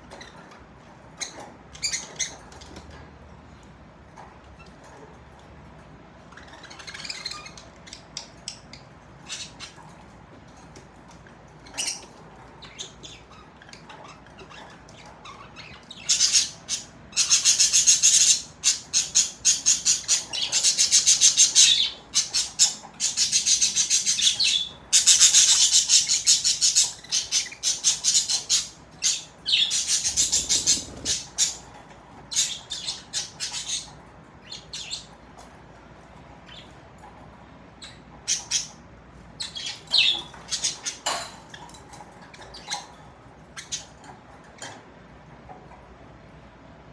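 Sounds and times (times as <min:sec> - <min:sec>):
budgerigars chirping and warbling: 0:00.1 - 0:02.9, 0:06.2 - 0:10.1, 0:11.5 - 0:35.5, 0:37.7 - 0:44.8.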